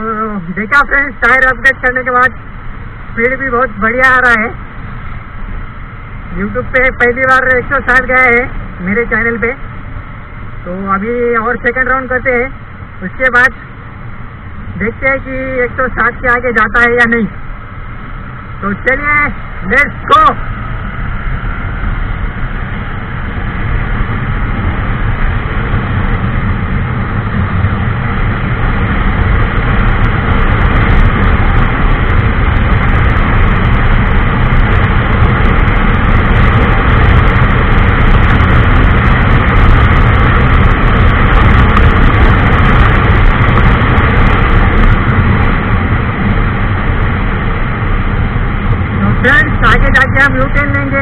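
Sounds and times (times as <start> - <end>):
motorcycle engine: 0.0 - 51.0
wind noise on microphone: 0.0 - 51.0.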